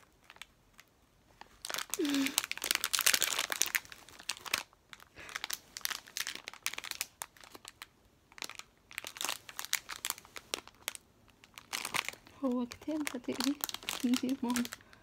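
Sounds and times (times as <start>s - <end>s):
plastic candy packet crinkling: 0.0s - 15.0s.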